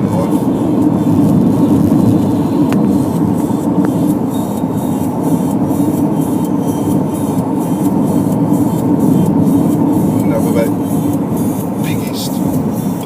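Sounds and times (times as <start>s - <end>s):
road and wind noise in car: 0.0s - 13.0s.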